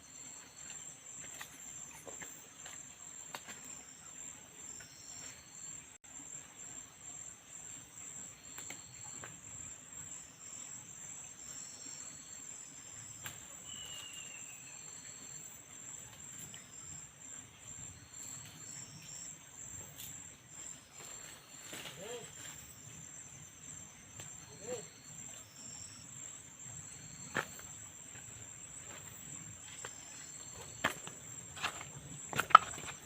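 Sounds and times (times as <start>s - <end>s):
crickets trilling: 0.0s - 33.0s
insect chirps: 0.0s - 33.0s.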